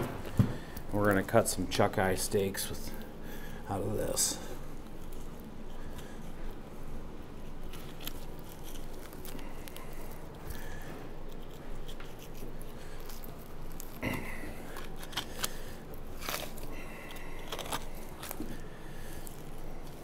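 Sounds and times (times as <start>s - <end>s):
knife cutting and scraping meat: 1.9s - 20.0s.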